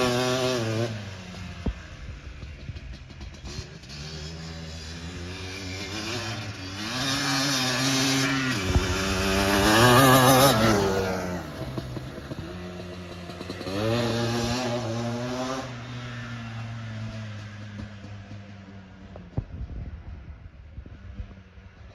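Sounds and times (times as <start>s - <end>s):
quad engine revving: 0.0s - 18.6s.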